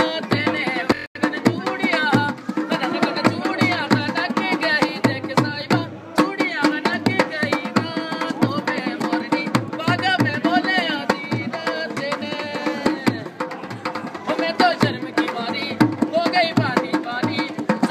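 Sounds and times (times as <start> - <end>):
hand drum folk rhythm: 0.0 - 17.9
person singing: 0.0 - 17.9.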